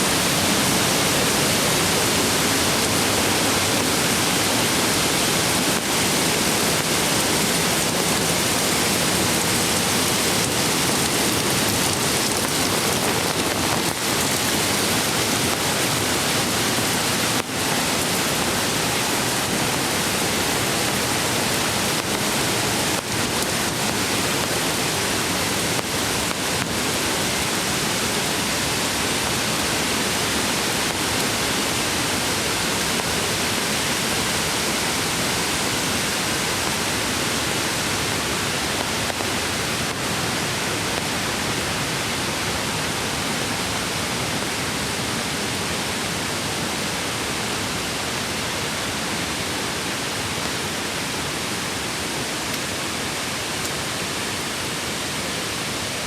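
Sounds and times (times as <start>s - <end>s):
creek water rushing over rocks: 0.0s - 56.0s.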